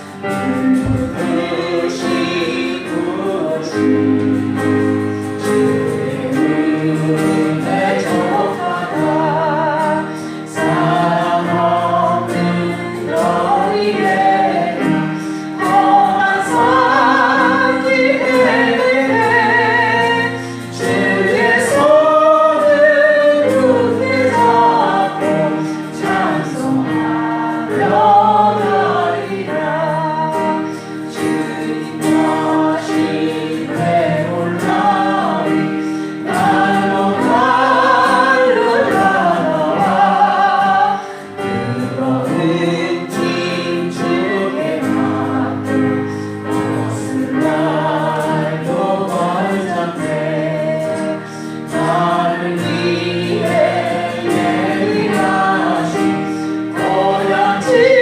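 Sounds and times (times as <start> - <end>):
group singing a hymn: 0.0 - 58.0
instrumental accompaniment: 0.0 - 58.0.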